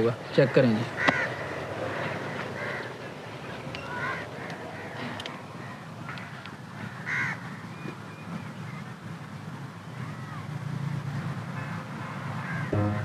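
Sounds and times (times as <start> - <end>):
birds calling harshly: 0.0 - 10.5, 11.5 - 12.8.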